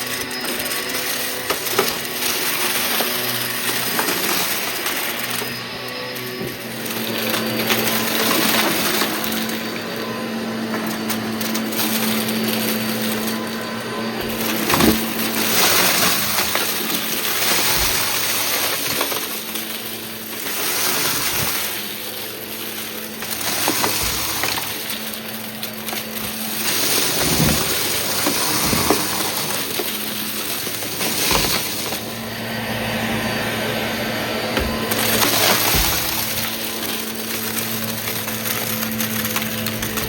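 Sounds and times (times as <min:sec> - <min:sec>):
debris crunching and rattling: 0:00.0 - 0:40.0
vacuum cleaner motor humming: 0:00.0 - 0:40.0.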